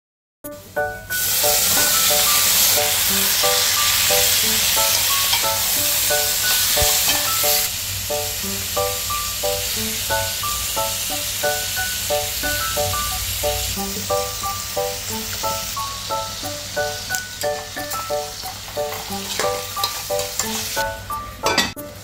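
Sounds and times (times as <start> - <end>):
light melodic background music: 0.5 - 22.0
chicken sizzling in hot oil: 1.1 - 21.6.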